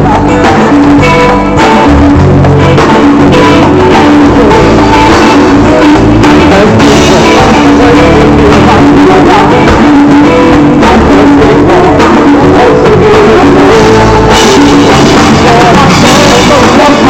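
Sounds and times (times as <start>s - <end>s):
live band playing loud music: 0.0s - 17.0s.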